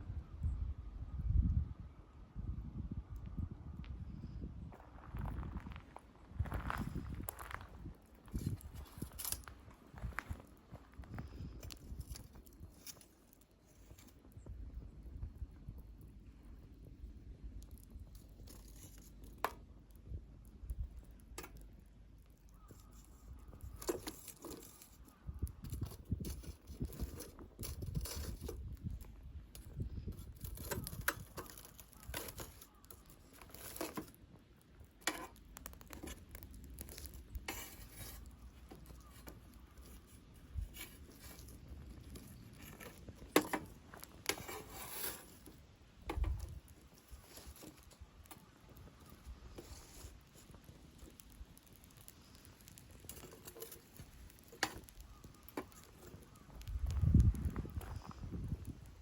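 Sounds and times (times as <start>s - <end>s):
low rumble of flame: 0.0s - 59.0s
campfire crackling and popping: 5.6s - 59.0s.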